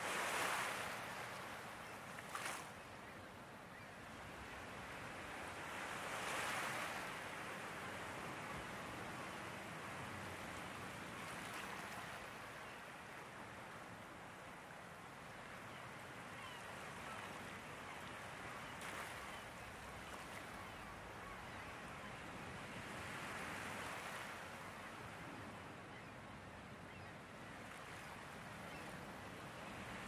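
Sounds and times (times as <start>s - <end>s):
soft wash of surf: 0.0s - 30.0s.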